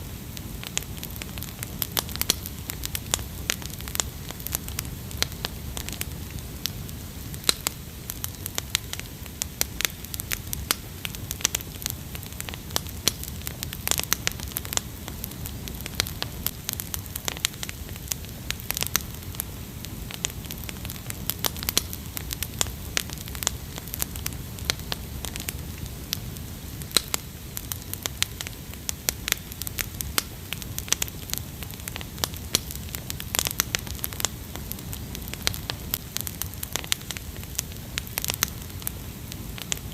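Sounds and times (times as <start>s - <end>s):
campfire crackling and popping: 0.0s - 39.9s
low rumble of flame: 0.0s - 39.9s.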